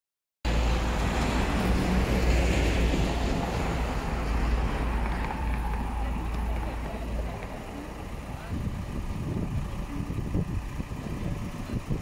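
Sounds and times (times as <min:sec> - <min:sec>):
truck diesel engine idling: 0:00.5 - 0:12.0.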